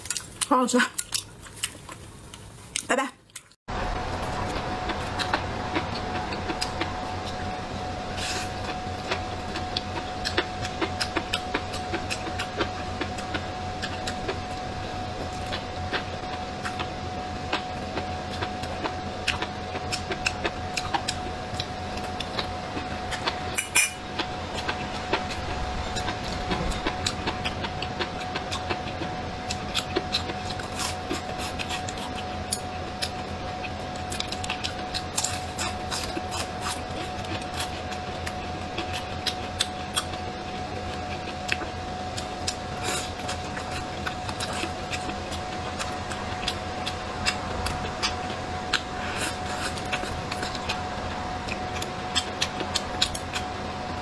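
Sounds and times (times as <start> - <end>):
chewing food: 0.0 - 3.6, 4.2 - 7.6, 8.2 - 53.5
steady background hum: 0.0 - 54.0.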